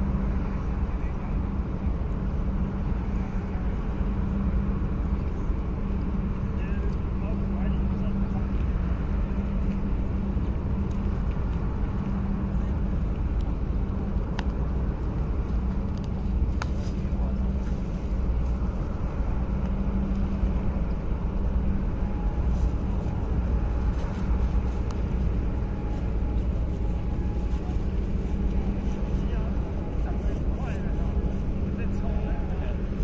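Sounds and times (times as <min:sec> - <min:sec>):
ship machinery rumble and hum: 0:00.0 - 0:33.0.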